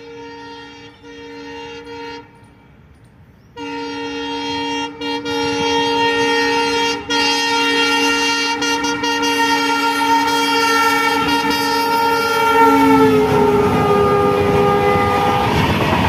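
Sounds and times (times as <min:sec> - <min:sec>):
locomotive air horn blasts: 0:00.0 - 0:02.9, 0:03.5 - 0:16.0.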